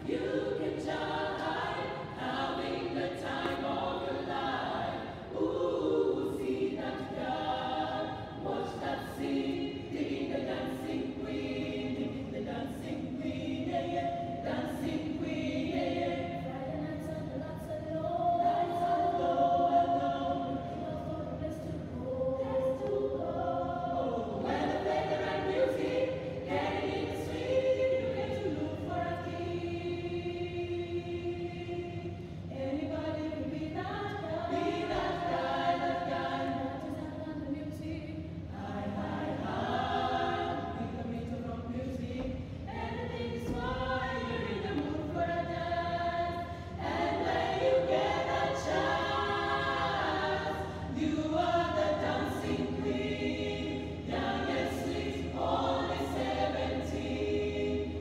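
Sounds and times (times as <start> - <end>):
girls' choir singing a cappella: 0.0 - 58.0.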